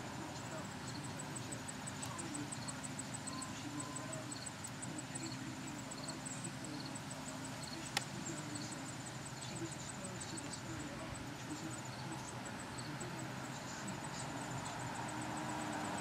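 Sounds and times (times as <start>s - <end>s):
insect chirping in pulses: 0.0s - 16.0s.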